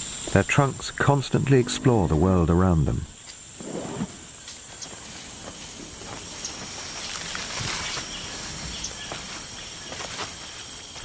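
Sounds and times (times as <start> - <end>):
high-pitched insect drone: 0.0 - 11.0
lower insect tone: 0.0 - 11.0.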